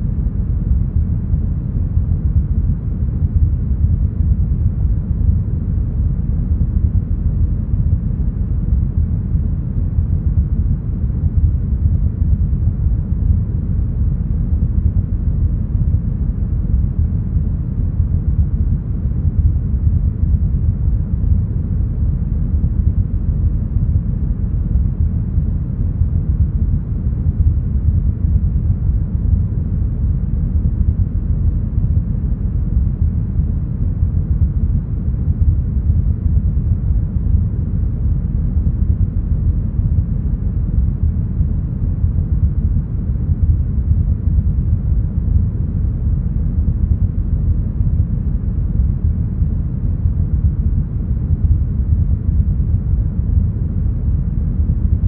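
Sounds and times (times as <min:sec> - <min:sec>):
brown noise low rumble: 0:00.0 - 0:55.0.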